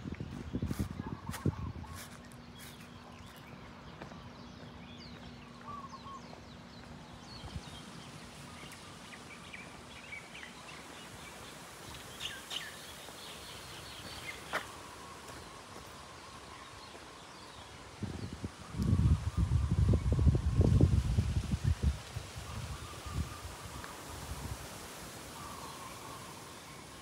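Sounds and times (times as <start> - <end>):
outdoor background hiss: 0.0 - 27.0
birds chirping: 0.2 - 20.5, 22.4 - 27.0.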